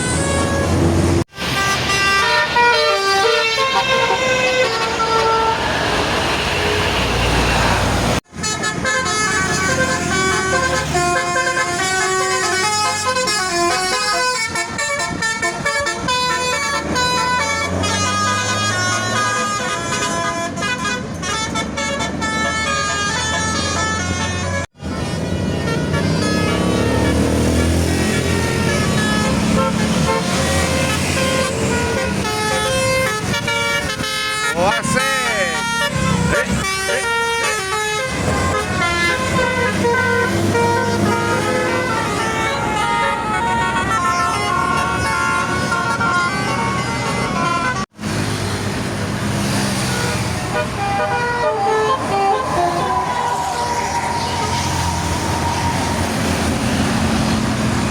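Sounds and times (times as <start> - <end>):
musical bus horn melody: 0.0 - 48.1, 49.7 - 57.9
bus engine hum: 0.0 - 57.9.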